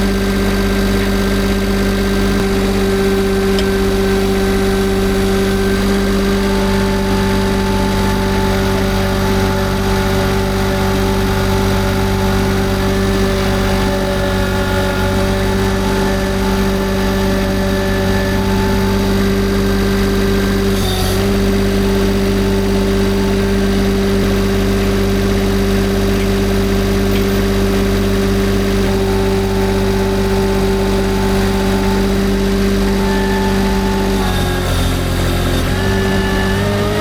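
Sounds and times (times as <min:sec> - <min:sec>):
skid steer engine running: 0:00.0 - 0:37.0.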